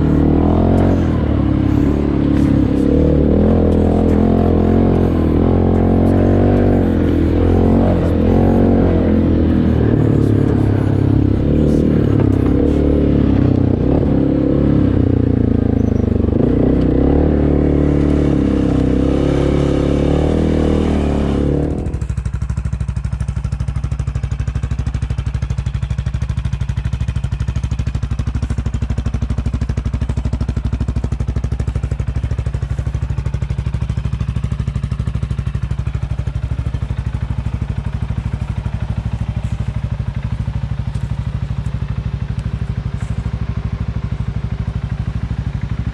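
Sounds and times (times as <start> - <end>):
quad bike engine revving and idling: 0.0 - 45.9.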